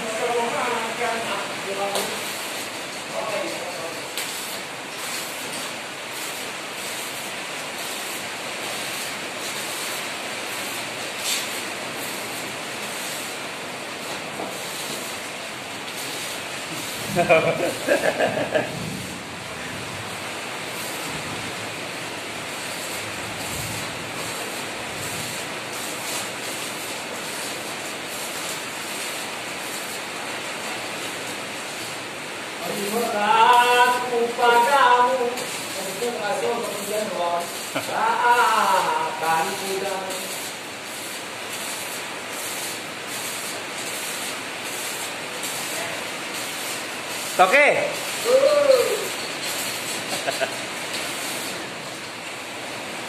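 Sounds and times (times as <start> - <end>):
arc welding hissing and sputtering: 0.0 - 53.0.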